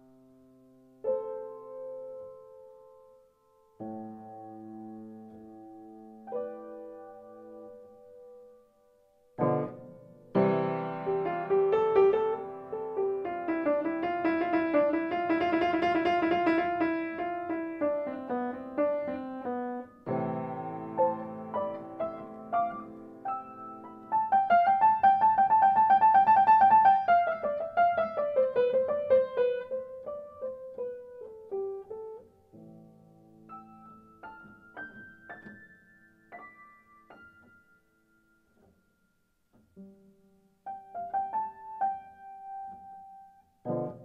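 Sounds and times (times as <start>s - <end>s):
solo piano music: 0.0s - 44.0s.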